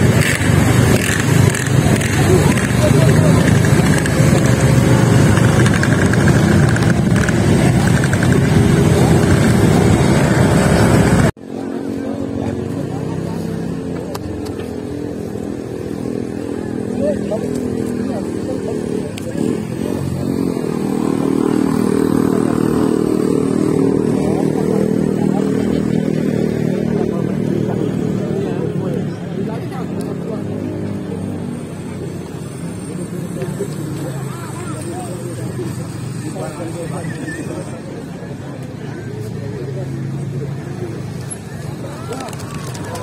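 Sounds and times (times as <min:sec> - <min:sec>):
motorcycle engine running: 0:00.0 - 0:36.4
road traffic rumble: 0:00.0 - 0:43.0.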